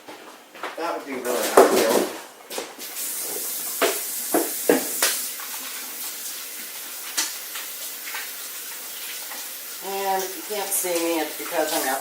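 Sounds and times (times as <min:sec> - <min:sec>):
tap water running: 0:00.0 - 0:12.0.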